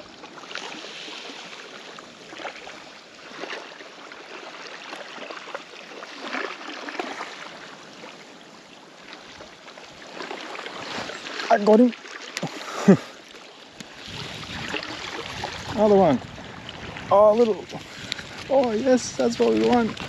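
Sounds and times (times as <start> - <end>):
water lapping and splashing: 0.0 - 20.0.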